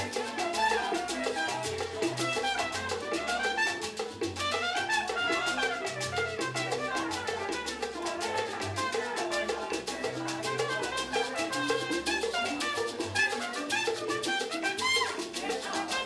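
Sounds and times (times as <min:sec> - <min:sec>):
brass melody in quick runs: 0:00.0 - 0:09.9, 0:10.6 - 0:16.0
fast percussion pattern: 0:00.0 - 0:16.0.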